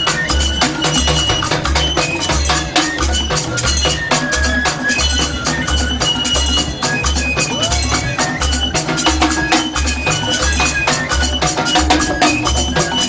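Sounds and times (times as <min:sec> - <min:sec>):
deep drum beat: 0:00.0 - 0:13.0
rattles and hand percussion: 0:00.0 - 0:13.0.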